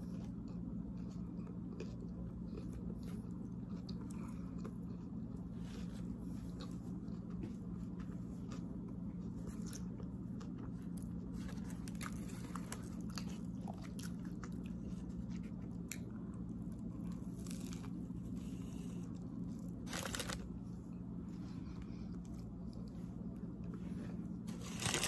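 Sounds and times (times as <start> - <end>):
person chewing a sandwich: 0.0 - 25.0.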